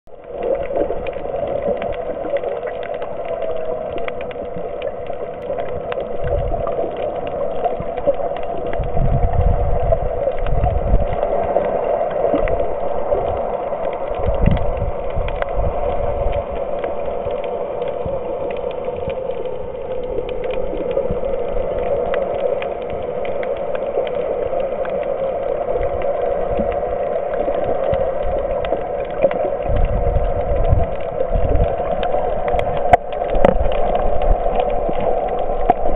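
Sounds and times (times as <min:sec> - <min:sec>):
clicks and crackles: 0:00.1 - 0:35.9
muffled underwater drone: 0:00.1 - 0:35.9
rumbling water surges: 0:00.1 - 0:35.9.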